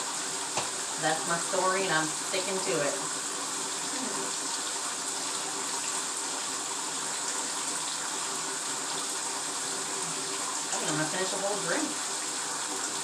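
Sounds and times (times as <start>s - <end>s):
bath tap running: 0.0s - 13.0s.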